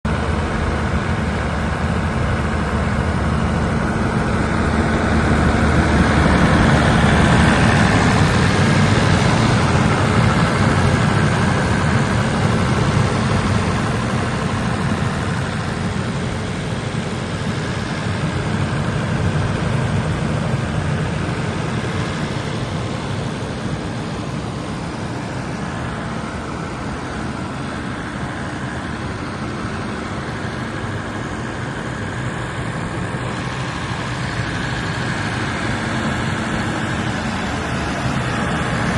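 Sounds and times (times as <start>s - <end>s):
diesel generator engine running: 0.0s - 38.9s.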